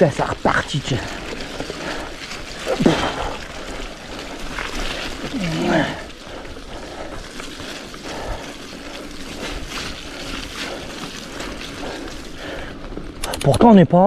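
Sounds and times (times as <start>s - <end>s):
bike tyre noise: 0.0s - 14.0s.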